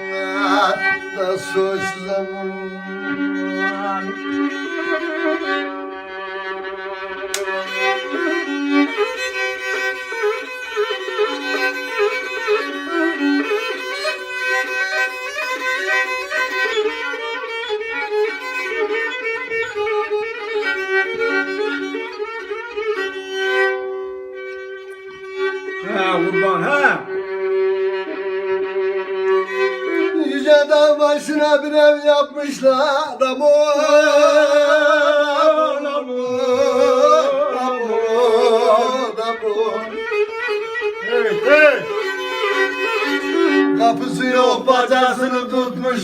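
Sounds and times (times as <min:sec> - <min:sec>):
fiddle playing folk melody: 0:00.0 - 0:46.0.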